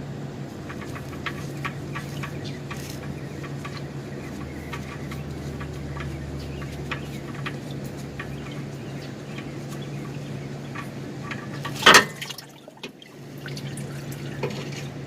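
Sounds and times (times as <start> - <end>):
steady low hum: 0.0 - 15.0
oil dripping into pan: 0.6 - 14.6.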